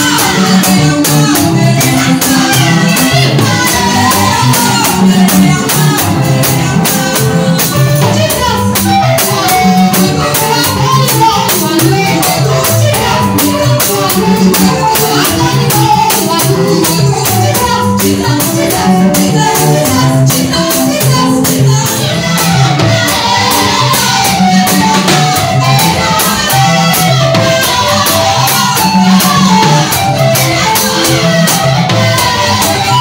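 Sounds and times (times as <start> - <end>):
upbeat music with fast percussion: 0.0 - 33.0.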